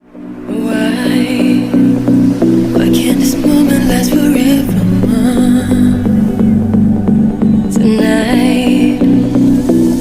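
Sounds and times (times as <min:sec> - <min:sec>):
steady electronic beat: 0:00.0 - 0:10.0
sustained synth melody: 0:00.0 - 0:10.0.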